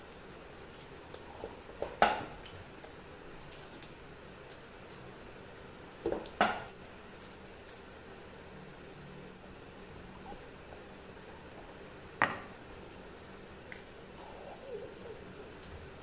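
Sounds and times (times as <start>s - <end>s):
faint chewing: 0.0s - 12.0s, 12.8s - 16.0s.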